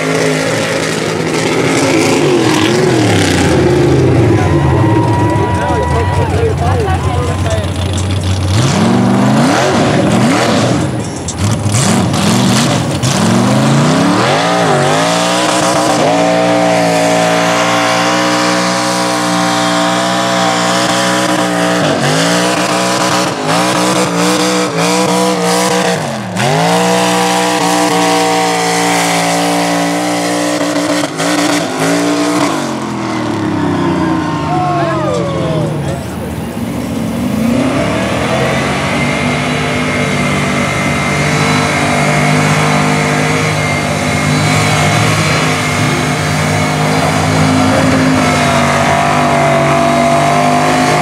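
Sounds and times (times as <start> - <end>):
truck engine revving hard: 0.0 - 51.0.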